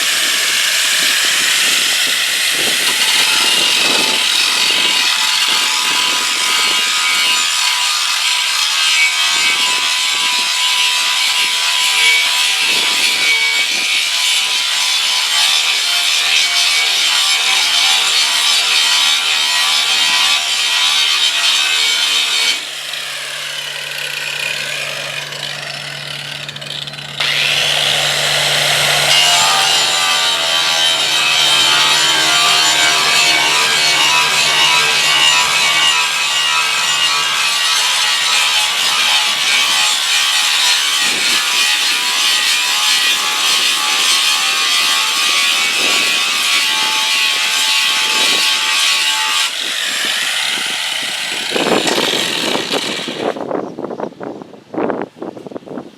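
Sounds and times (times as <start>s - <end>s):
power tool rasping: 0.0s - 53.4s.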